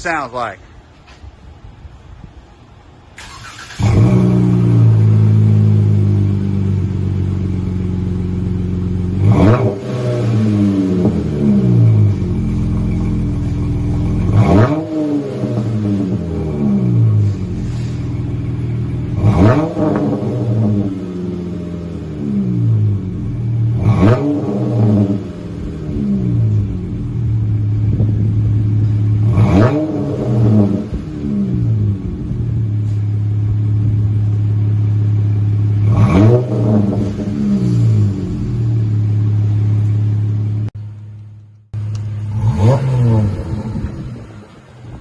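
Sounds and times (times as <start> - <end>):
car exhaust idling and revving: 3.8 - 45.0.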